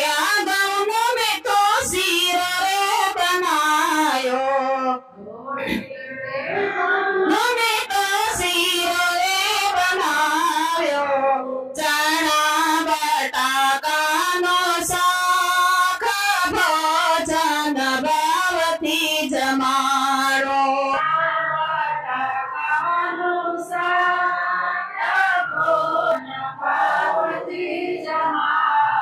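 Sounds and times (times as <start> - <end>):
women singing devotional song: 0.0 - 29.0.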